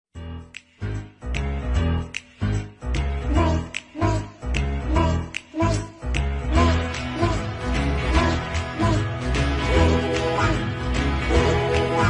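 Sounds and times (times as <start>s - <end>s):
bass-heavy background music: 0.1s - 12.0s.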